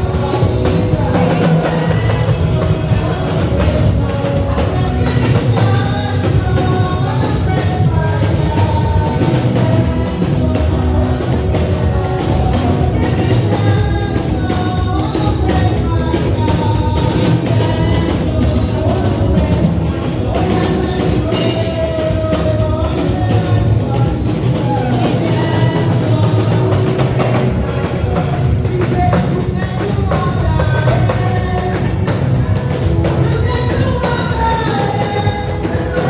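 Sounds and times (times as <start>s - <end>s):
bass guitar: 0.0s - 36.0s
drum kit: 0.0s - 36.0s
person singing: 0.0s - 36.0s.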